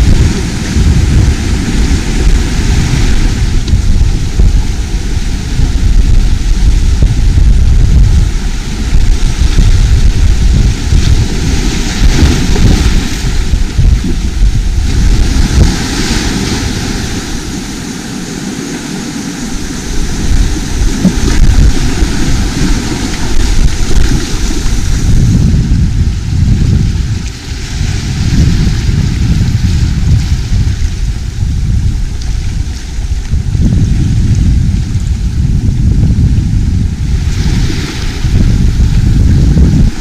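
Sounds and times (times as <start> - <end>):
sea waves and surf: 0.0 - 40.0
wind buffeting microphone: 0.0 - 40.0.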